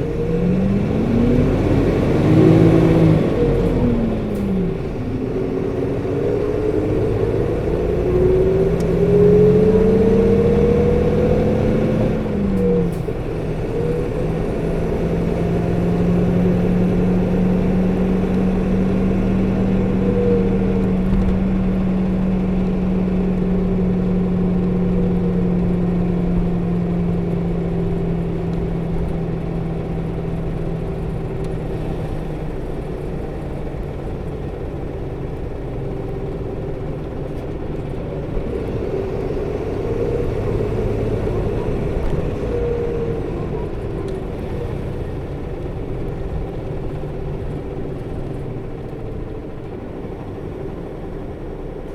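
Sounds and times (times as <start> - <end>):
bus diesel engine: 0.0 - 51.9
engine fan whine: 0.0 - 51.9.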